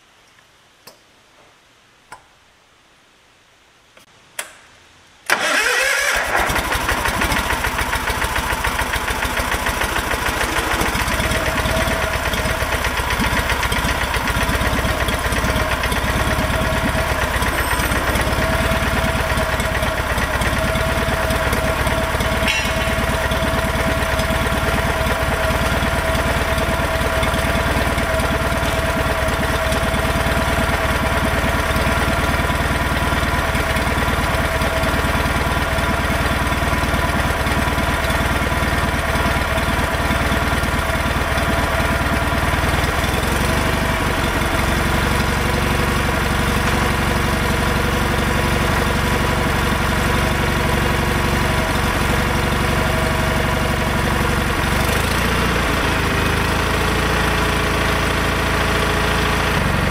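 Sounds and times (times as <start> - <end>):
lawn tractor engine running: 5.3 - 59.9.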